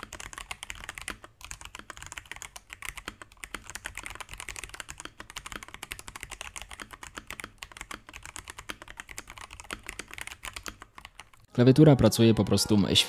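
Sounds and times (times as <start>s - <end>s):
mechanical keyboard typing: 0.0s - 11.5s.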